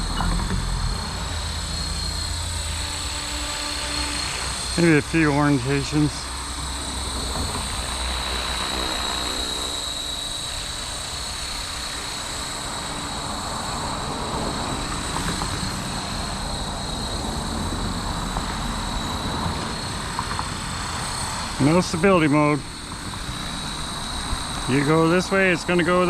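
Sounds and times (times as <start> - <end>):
rc helicopter motor whine: 0.0 - 26.0.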